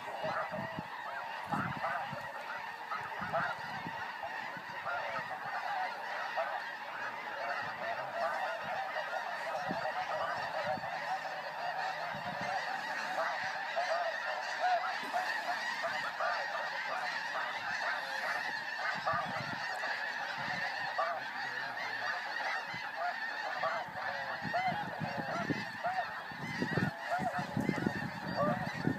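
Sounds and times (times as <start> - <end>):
flock of geese honking: 0.0 - 28.9.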